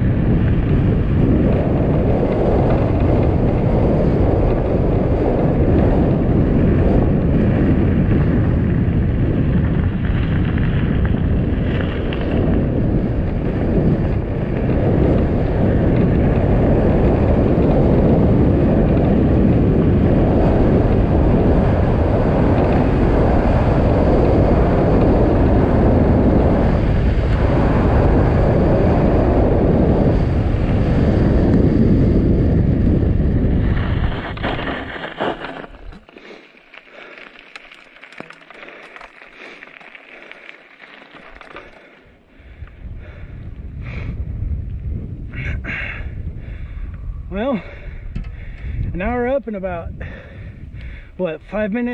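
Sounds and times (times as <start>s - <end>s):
bike tyres rolling on gravel: 0.0s - 51.9s
wind buffeting microphone: 0.0s - 51.9s.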